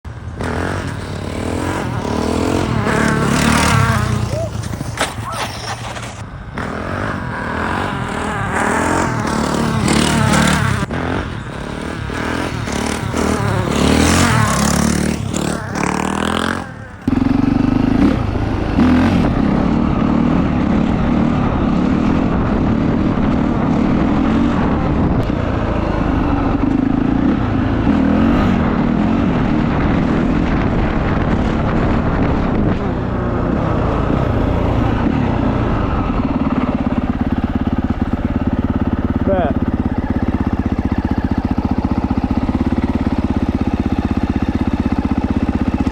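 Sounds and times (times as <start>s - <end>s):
dirt bike engine revving: 0.2s - 45.9s.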